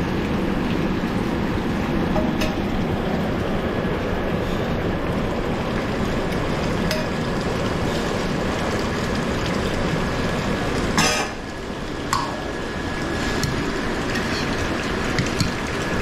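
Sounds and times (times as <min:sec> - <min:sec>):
restaurant kitchen rushing noise: 0:00.0 - 0:16.0.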